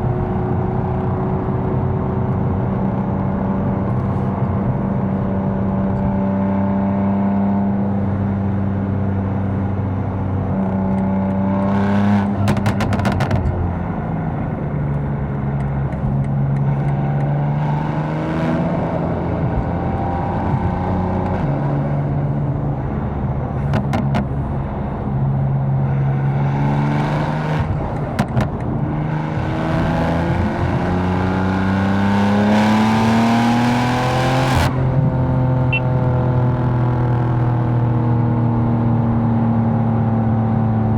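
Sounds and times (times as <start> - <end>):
car engine accelerating and shifting: 0.0 - 40.9.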